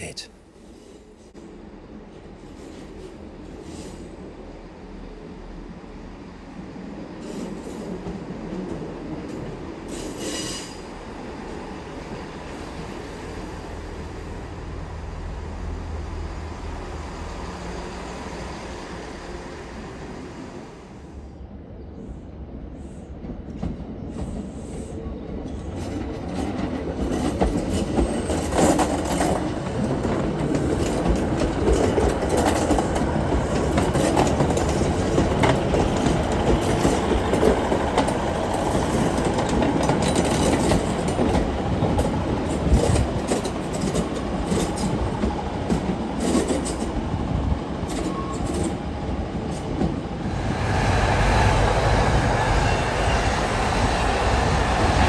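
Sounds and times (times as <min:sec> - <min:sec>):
diesel train engine: 0:00.0 - 0:55.0
passing train rumble: 0:00.0 - 0:55.0.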